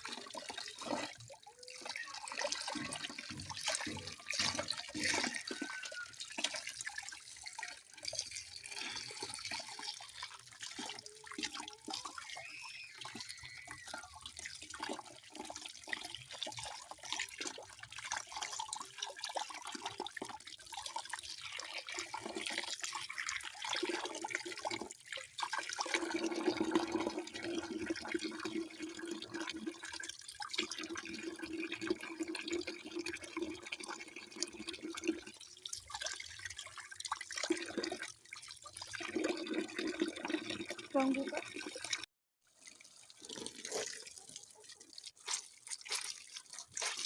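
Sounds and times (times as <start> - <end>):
water splashing and pouring: 0.0 - 47.0.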